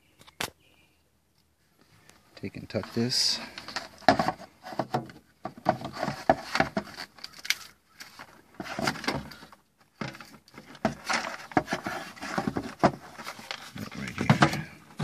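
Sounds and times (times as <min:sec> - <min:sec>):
handling clicks knocks and rustles: 0:02.1 - 0:15.0.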